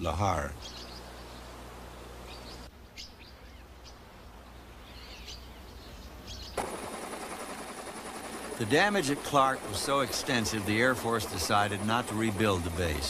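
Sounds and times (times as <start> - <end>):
birds chirping: 0.0 - 13.0
faint outdoor background noise: 0.0 - 13.0.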